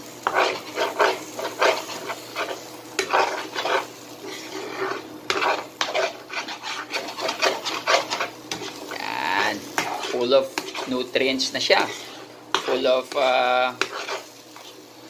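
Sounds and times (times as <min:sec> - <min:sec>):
food sizzling in a pan: 0:00.0 - 0:15.0
utensil scraping a pan: 0:00.2 - 0:14.8.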